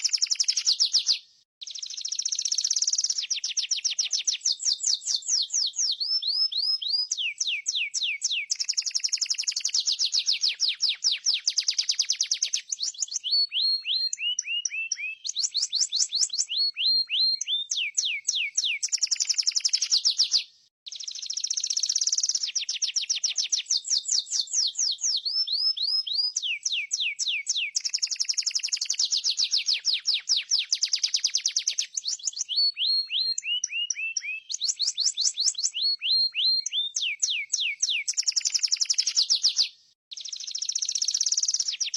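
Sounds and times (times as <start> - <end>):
canary song trills: 0.0 - 41.9.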